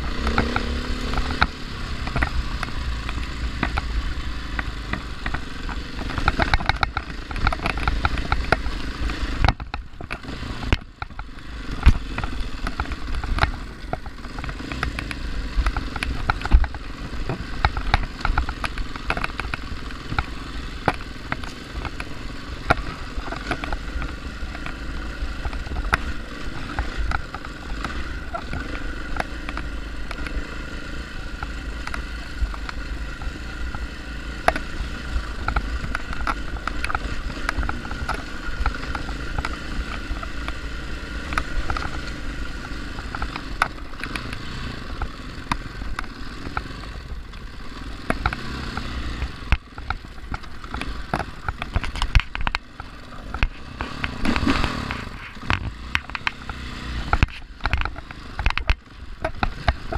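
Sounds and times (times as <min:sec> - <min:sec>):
bike clacking and rattling over rock: 0:00.0 - 0:59.9
motorcycle engine running at low revs: 0:00.0 - 0:59.9.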